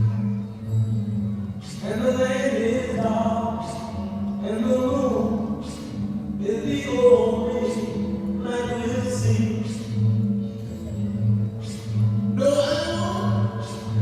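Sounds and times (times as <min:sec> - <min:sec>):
low musical accompaniment: 0:00.0 - 0:14.0.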